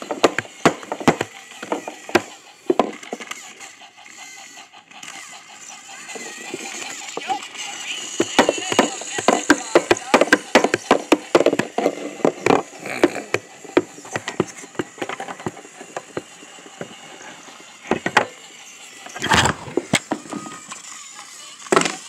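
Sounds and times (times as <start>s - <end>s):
toy trains clicking and knocking: 0.0s - 22.0s.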